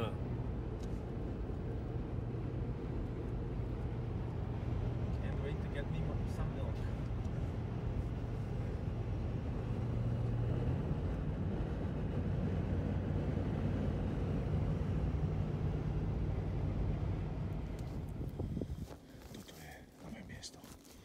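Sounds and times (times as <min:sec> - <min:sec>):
vehicle road noise at highway speed: 0:00.0 - 0:21.0.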